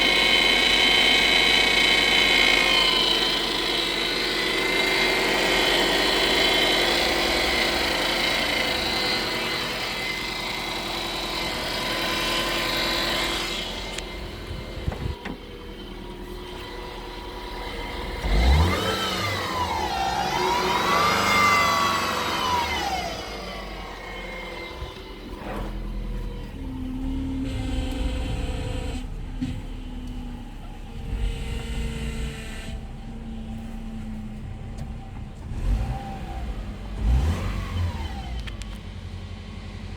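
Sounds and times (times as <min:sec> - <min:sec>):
power steering pump whining: 0:00.0 - 0:39.9.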